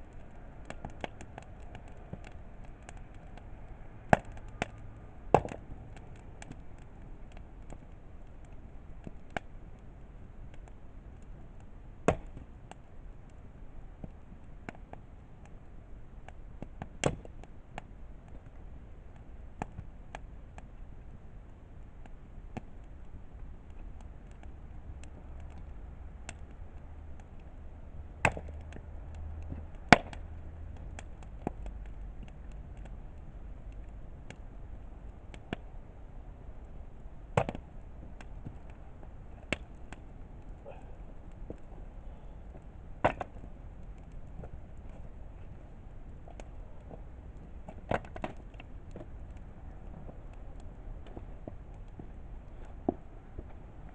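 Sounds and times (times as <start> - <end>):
campfire crackling: 0.0 - 53.9
fire snapping: 0.0 - 53.9.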